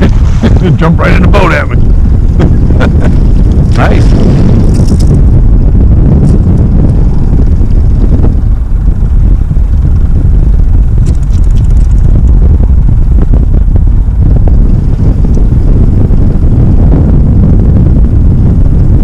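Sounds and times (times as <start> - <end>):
low rumble: 0.0 - 19.0
wind buffeting microphone: 0.0 - 19.0.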